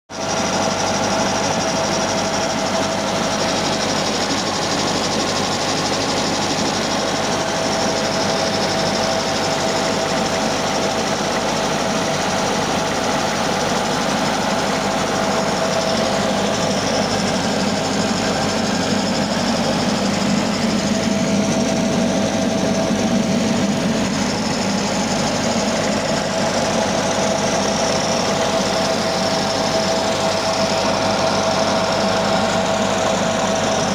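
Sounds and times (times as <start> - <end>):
refrigerator compressor rattling and whining: 0.1 - 33.9.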